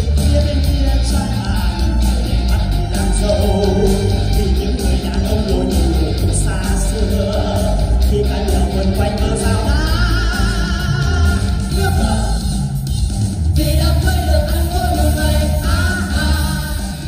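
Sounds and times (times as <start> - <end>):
person singing: 0.0 - 12.8, 13.6 - 17.0
loud amplified music with bass: 0.0 - 17.0.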